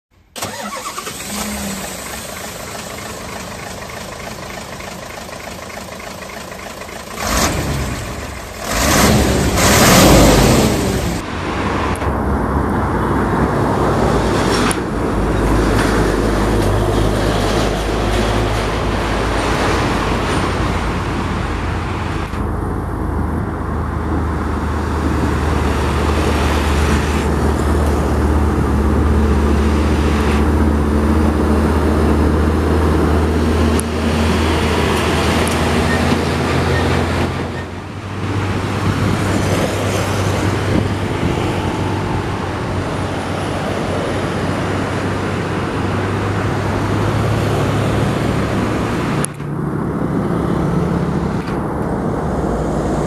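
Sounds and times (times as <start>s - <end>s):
diesel truck engine droning: 0.3s - 53.0s
truck engine revving: 0.4s - 53.0s.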